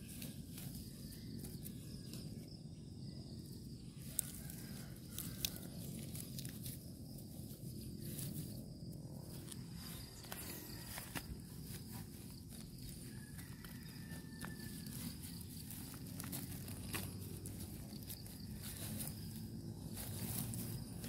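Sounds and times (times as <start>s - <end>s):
soil and straw handled by hand: 0.0s - 21.0s.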